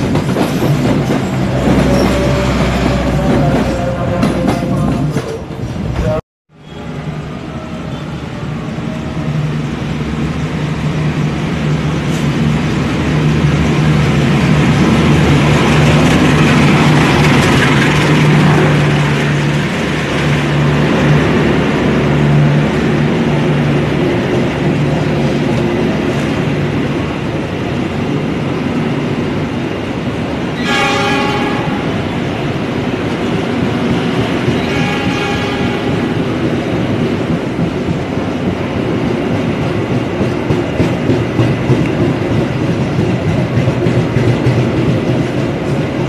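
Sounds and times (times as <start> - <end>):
diesel locomotive engine drone: 0.0 - 46.0
train wheels rumbling on rails: 0.0 - 46.0.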